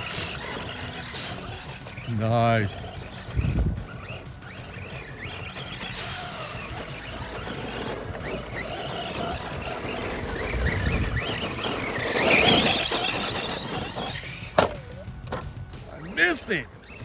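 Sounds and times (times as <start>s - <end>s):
radio-controlled car motors whining: 0.0s - 15.4s, 16.0s - 17.0s.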